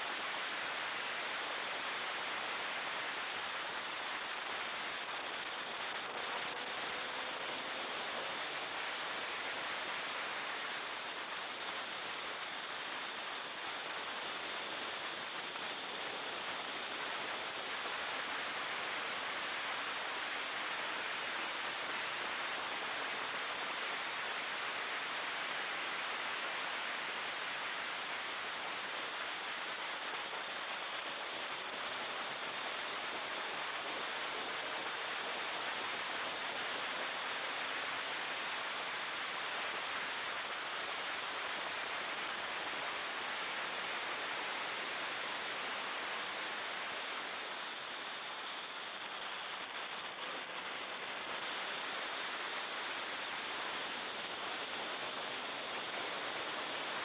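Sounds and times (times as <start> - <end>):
wind and road noise hiss: 0.0 - 57.0.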